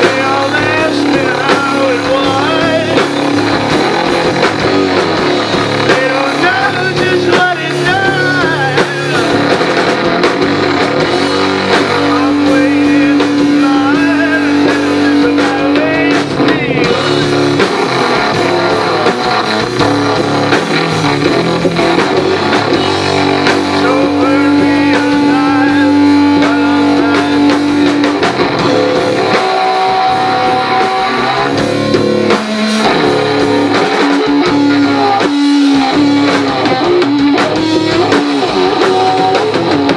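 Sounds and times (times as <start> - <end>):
bass: 0.0 - 39.9
drums: 0.0 - 39.9
electric guitar lead: 0.0 - 39.9.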